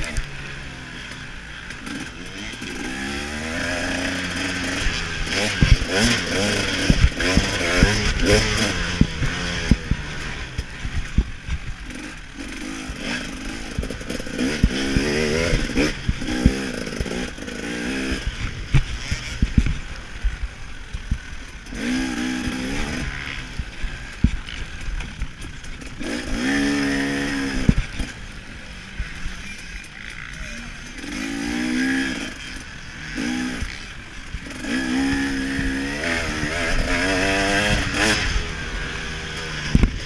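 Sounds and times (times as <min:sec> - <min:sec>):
bike knocking and rattling: 0:00.0 - 0:40.0
dirt bike engine revving: 0:00.0 - 0:40.0.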